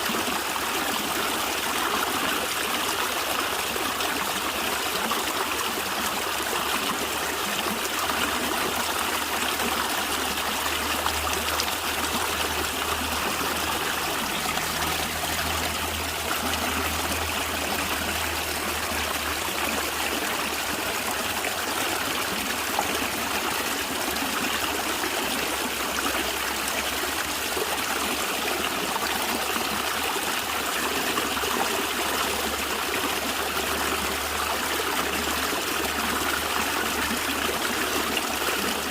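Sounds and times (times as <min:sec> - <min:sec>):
stream gurgling over stones: 0:00.0 - 0:38.9.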